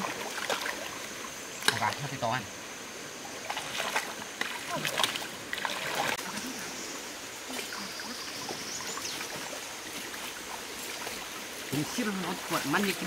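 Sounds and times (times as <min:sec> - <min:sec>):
stream trickling: 0:00.0 - 0:13.0.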